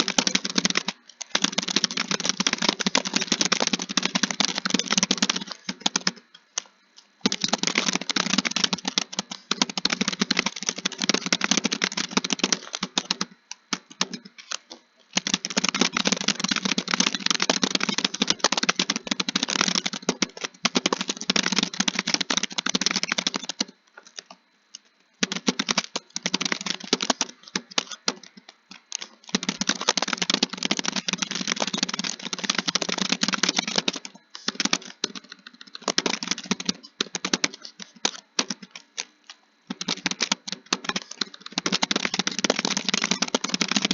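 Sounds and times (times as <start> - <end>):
fast typing on keyboard: 0.0 - 24.4, 25.2 - 43.9.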